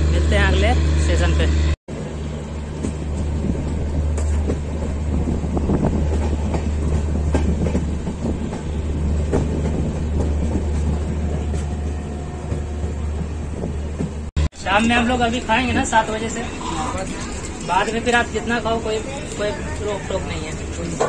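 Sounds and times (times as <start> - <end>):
train rumbling: 0.0 - 21.0
wheels clattering over rail joints: 2.2 - 21.0.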